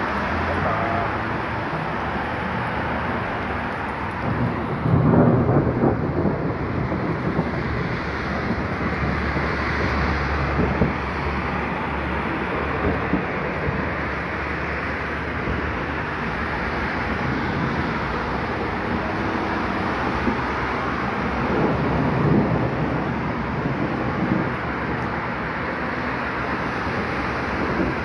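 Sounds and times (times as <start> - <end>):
car passing on wet road: 0.0 - 28.0
heavy rain on wet street: 0.0 - 28.0.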